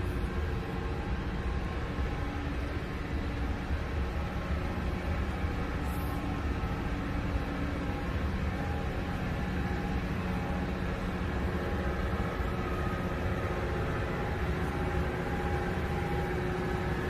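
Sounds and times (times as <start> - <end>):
faint steady tones: 0.0 - 17.0
ventilation hum and rush: 0.0 - 17.0.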